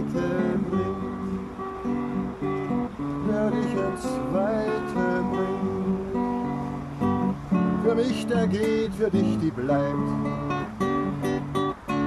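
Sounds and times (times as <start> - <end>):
classical guitar strummed chords: 0.0 - 12.0.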